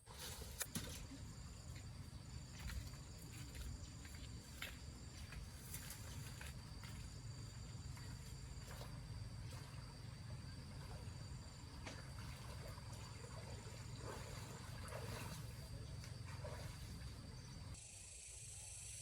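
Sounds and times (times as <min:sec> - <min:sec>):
insects trilling: 0:00.3 - 0:19.0
higher insect trill: 0:00.6 - 0:19.0.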